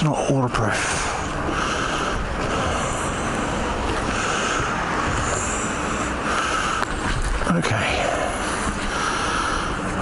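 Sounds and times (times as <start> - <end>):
motorcycle road noise: 0.0 - 10.0
wind rushing over microphone: 0.6 - 10.0.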